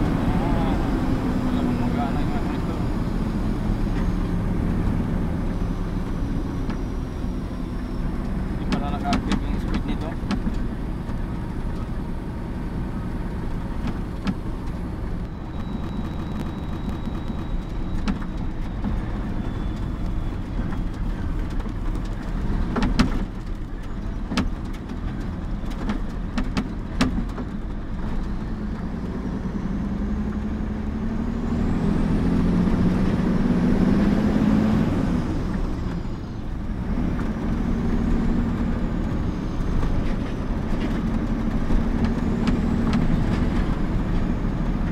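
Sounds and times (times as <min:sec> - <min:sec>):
diesel truck engine rumbling: 0:00.0 - 0:44.9.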